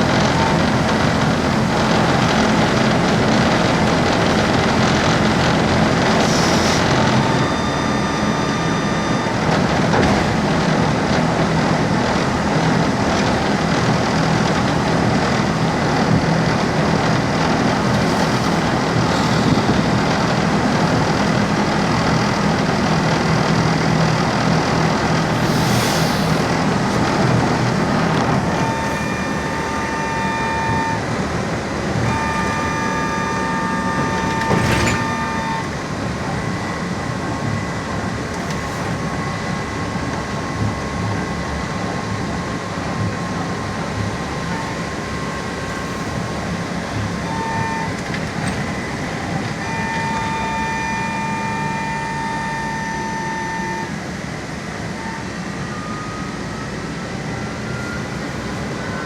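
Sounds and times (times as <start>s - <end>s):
trolleybus running rumble: 0.0s - 59.0s.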